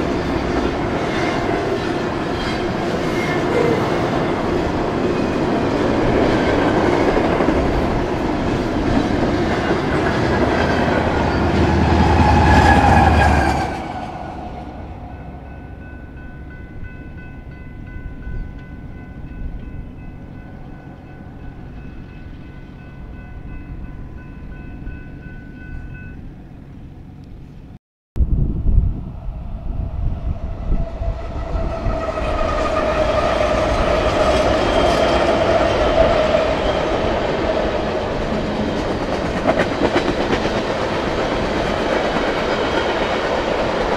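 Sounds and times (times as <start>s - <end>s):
train wheels rumbling on rails: 0.0s - 26.2s, 28.8s - 43.9s.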